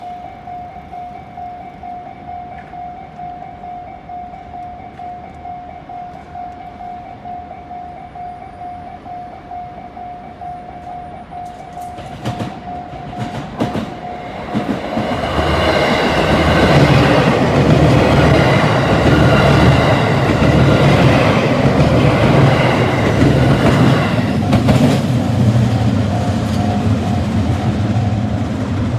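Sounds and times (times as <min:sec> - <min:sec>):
level crossing warning bell: 0:00.0 - 0:27.4
train passing: 0:00.0 - 0:28.9.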